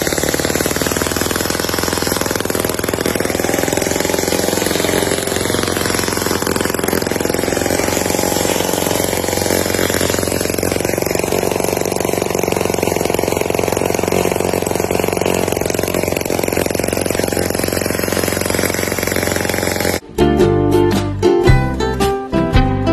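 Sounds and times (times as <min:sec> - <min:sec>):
diesel tractor engine running: 0:00.0 - 0:20.1.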